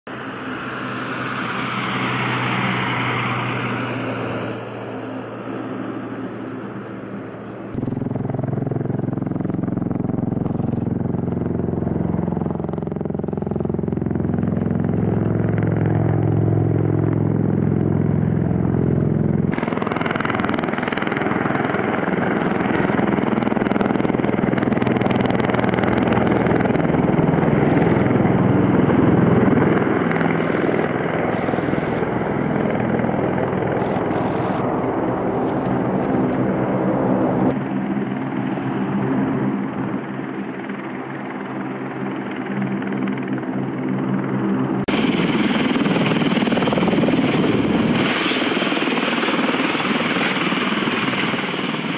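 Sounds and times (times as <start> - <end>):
rushing rotor-wash noise: 0.1 - 51.9
tiltrotor aircraft drone: 0.1 - 51.9.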